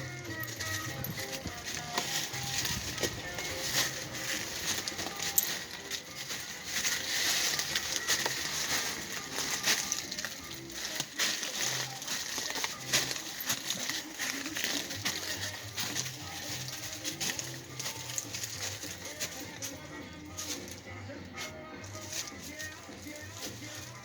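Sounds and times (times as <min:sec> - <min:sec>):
crunching footsteps: 0:00.0 - 0:24.0
faint radio music: 0:00.0 - 0:24.0.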